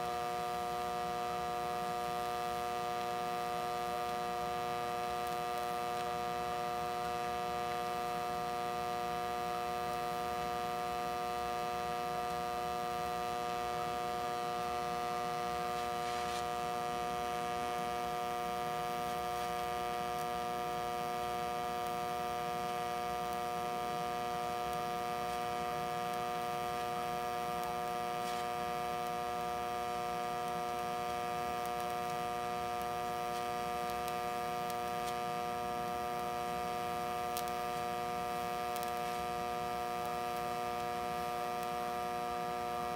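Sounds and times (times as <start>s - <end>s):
welding arc humming: 0.0s - 42.9s.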